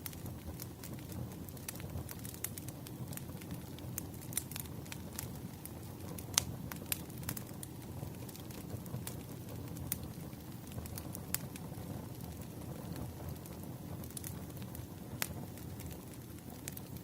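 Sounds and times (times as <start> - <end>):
fire crackling and popping: 0.0 - 17.0
wood fire rumbling: 0.0 - 17.0.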